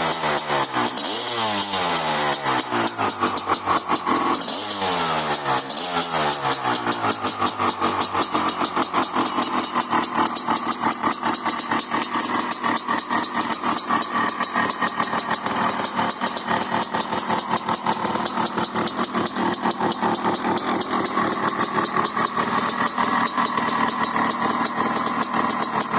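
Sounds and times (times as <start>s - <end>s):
two-stroke motorcycle engine idling: 0.0s - 25.9s.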